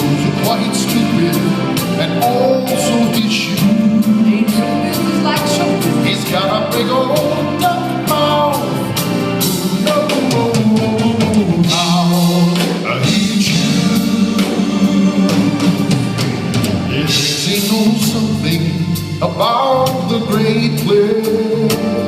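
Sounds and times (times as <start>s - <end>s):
drum kit keeping time: 0.0s - 22.0s
live band playing: 0.0s - 22.0s
people singing: 0.0s - 22.0s.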